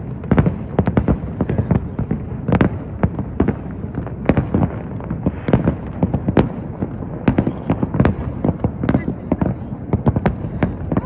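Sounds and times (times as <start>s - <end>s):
fireworks bangs: 0.0s - 11.0s
low rumble of shells bursting: 0.0s - 11.0s.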